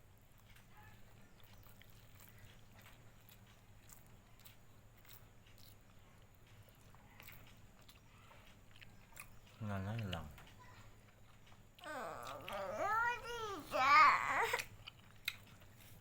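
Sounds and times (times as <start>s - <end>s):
person chewing: 1.4s - 10.1s, 11.2s - 16.0s.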